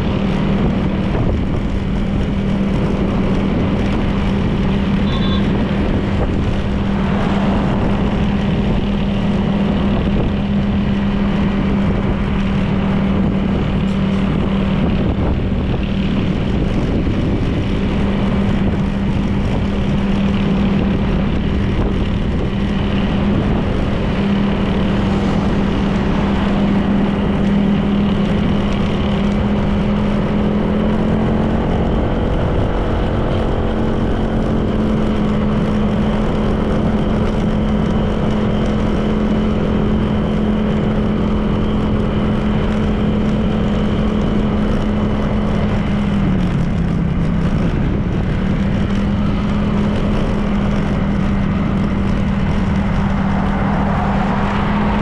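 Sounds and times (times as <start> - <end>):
scooter engine cruising: 0.0 - 55.0
wind and road noise: 0.0 - 55.0.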